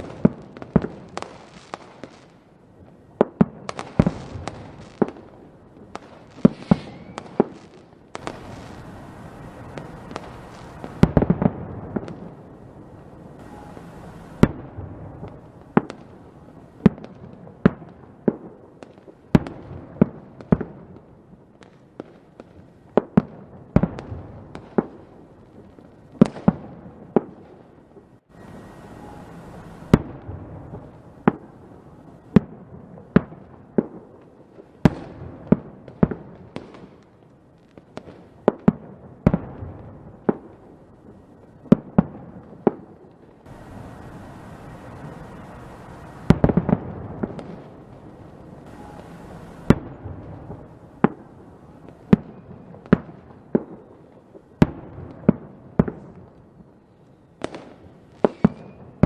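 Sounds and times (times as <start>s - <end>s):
fireworks bangs: 0.0s - 59.0s
low background crackle: 0.0s - 59.0s.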